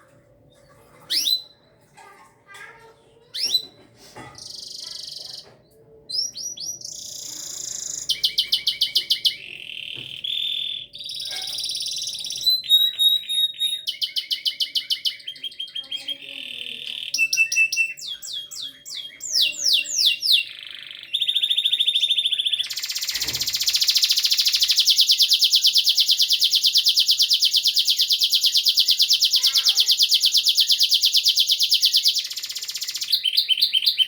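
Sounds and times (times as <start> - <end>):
bird singing with trills: 6.1 - 34.0.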